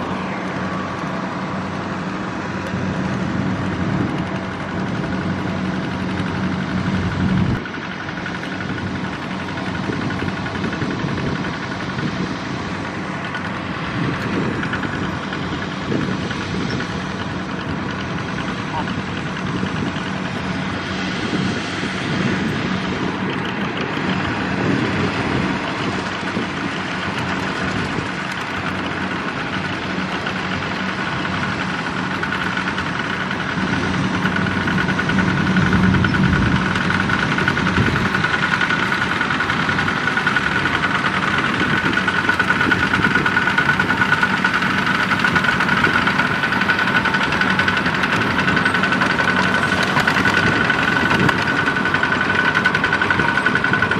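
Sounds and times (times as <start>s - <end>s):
walking tractor diesel engines: 0.0s - 53.9s.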